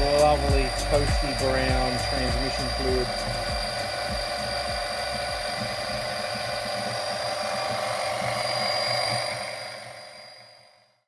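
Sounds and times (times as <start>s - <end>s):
electric pump motor whine: 0.0s - 11.0s.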